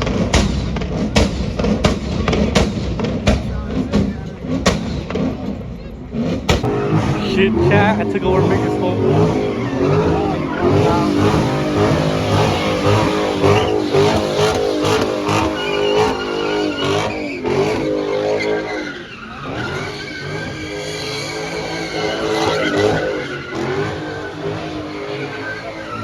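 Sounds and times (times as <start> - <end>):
car engine revving: 0.0 - 26.0
tyres squealing: 3.8 - 26.0.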